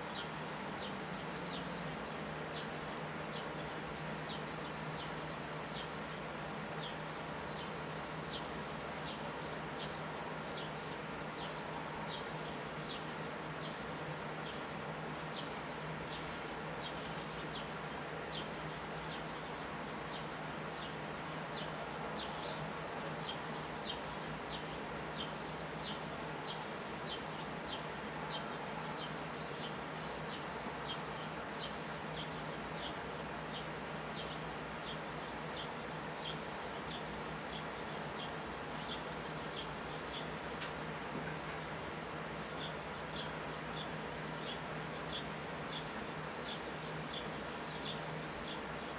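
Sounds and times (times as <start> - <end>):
sparrows chirping: 0.0 - 48.9.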